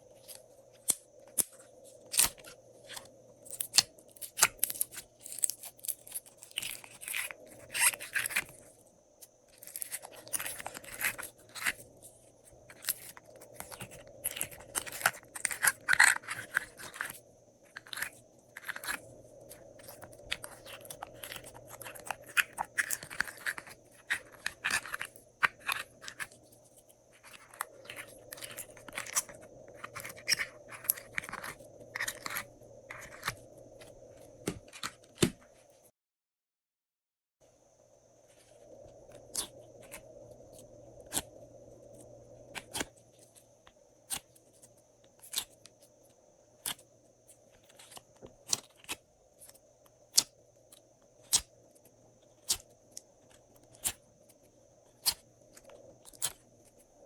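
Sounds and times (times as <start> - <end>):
faint steady hum: 0.0 - 35.9, 37.4 - 57.0.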